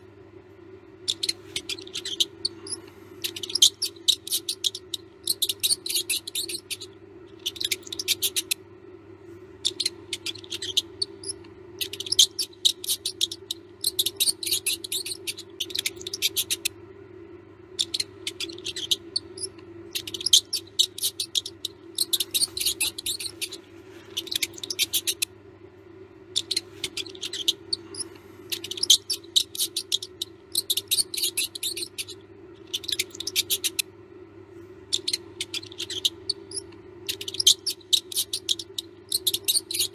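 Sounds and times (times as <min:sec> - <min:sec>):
steady low hum: 0:00.0 - 0:39.9
mouse squeaking: 0:00.9 - 0:08.6, 0:09.6 - 0:16.8, 0:17.7 - 0:25.3, 0:26.3 - 0:33.9, 0:34.9 - 0:39.9.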